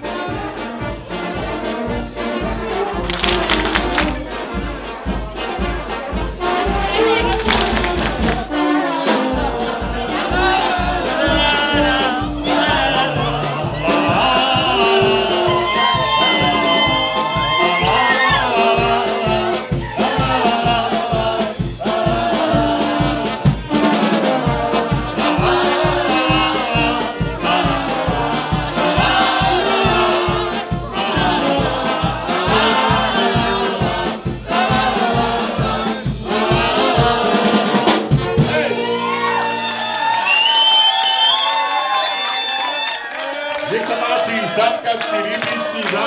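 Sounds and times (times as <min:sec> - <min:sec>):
trumpet and trombone melody: 0:00.0 - 0:39.9.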